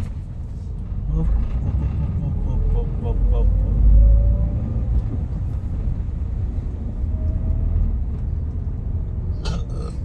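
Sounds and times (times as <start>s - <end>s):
road noise: 0.0s - 10.0s
vehicle engine rumble: 0.0s - 10.0s.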